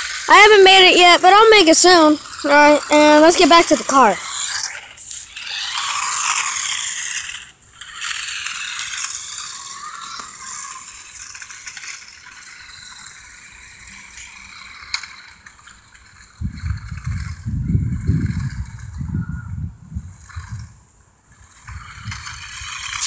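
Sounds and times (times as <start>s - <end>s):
toy car rattling over ground: 0.0s - 19.2s, 20.1s - 23.0s.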